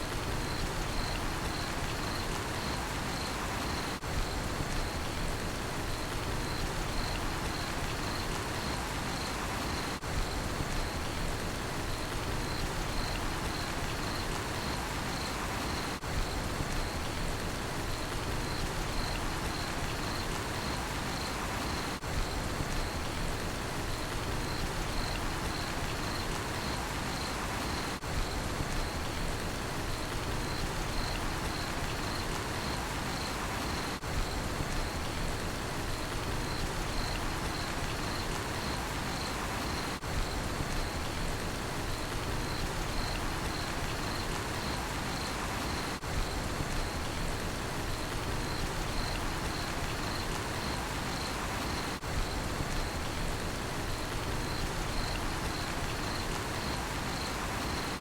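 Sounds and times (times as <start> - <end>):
steady rain: 0.0 - 58.0
crickets chirping: 0.2 - 11.2, 11.8 - 17.2, 17.9 - 58.0.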